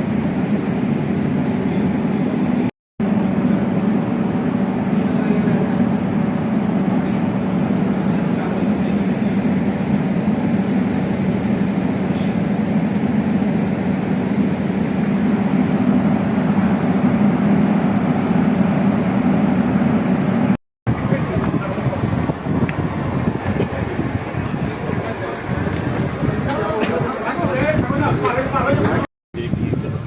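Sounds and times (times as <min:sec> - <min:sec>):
machinery rumble: 0:00.0 - 0:30.0.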